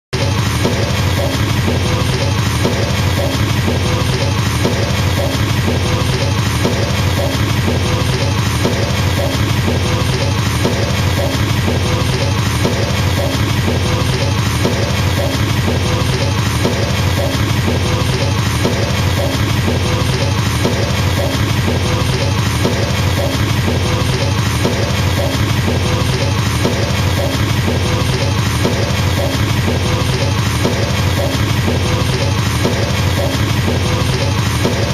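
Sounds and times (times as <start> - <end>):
fast double bass drum roll: 0.1 - 34.9.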